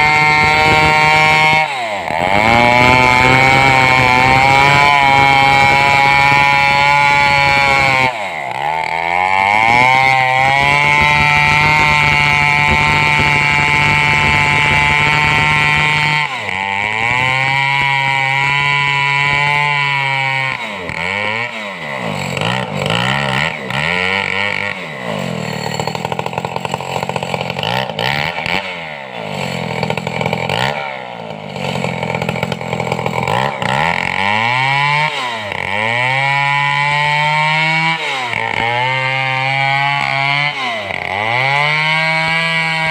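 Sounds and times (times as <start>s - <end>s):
chainsaw cutting: 0.0s - 42.9s.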